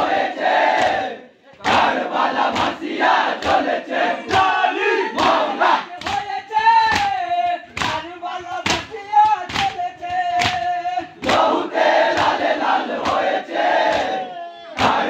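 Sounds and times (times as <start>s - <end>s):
crowd chanting: 0.0s - 15.0s
men beating chests in unison: 0.0s - 15.0s.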